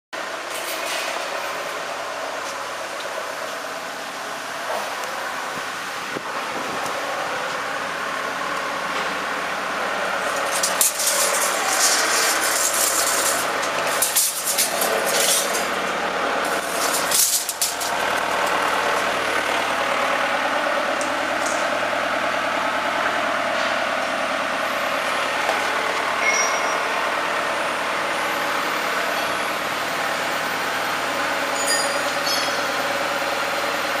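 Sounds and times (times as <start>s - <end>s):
factory machinery hum: 0.2s - 34.0s.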